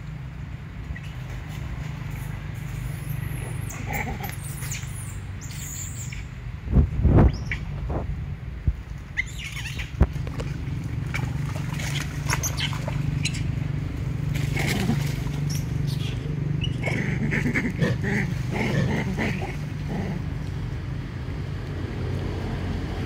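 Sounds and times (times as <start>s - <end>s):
animals wading through mud: 0.1s - 6.2s, 8.8s - 23.0s.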